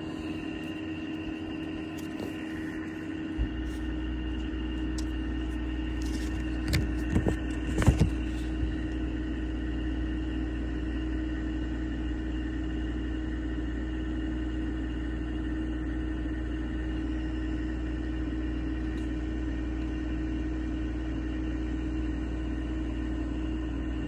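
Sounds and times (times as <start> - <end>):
low rumble and hum: 0.0 - 24.0.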